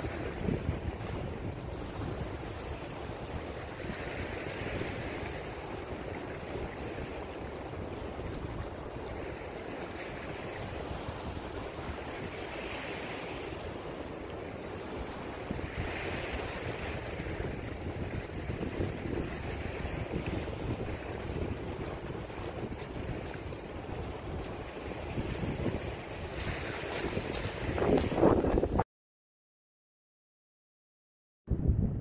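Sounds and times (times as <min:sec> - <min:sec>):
small waves on shingle beach: 0:00.0 - 0:28.8
wind rumbling on microphone: 0:00.0 - 0:28.8, 0:31.5 - 0:32.0.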